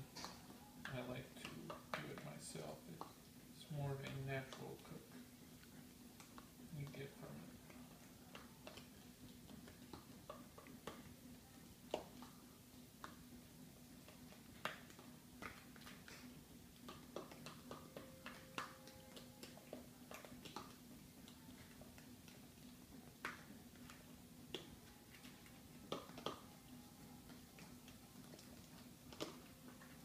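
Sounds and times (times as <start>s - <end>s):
batter mixing clicks: 0.0s - 30.0s.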